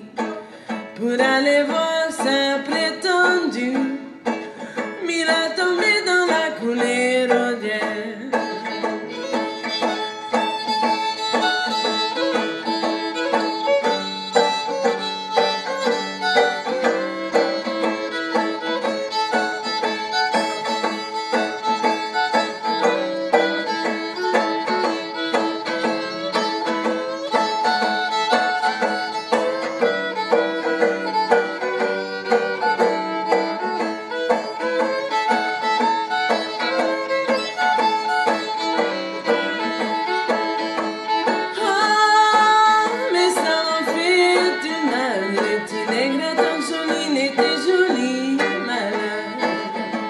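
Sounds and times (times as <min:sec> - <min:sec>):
fiddle melody: 0:00.0 - 0:50.0
plucked string accompaniment: 0:00.0 - 0:50.0.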